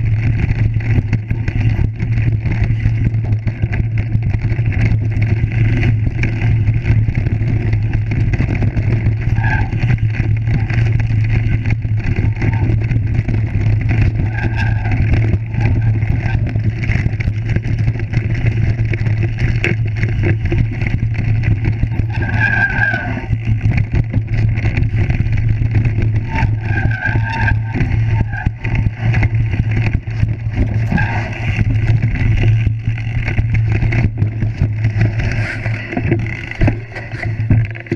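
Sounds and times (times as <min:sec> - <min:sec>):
bike rattling over stones: 0:00.0 - 0:37.9
rumble of wind and tyres: 0:00.0 - 0:37.9.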